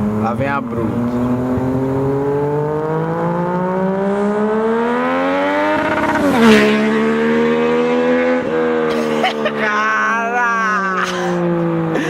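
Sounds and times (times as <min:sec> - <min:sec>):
car exhaust accelerating: 0:00.0 - 0:12.0.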